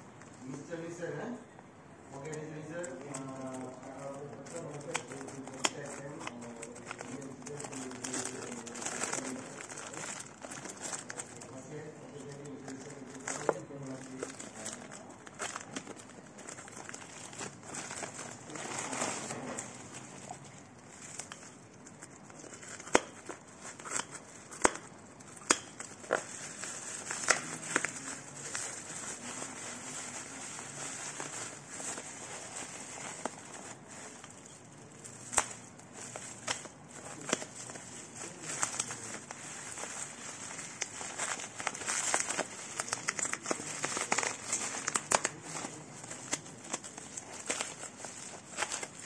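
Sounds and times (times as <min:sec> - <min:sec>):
packaging crinkling: 0:02.1 - 0:49.0.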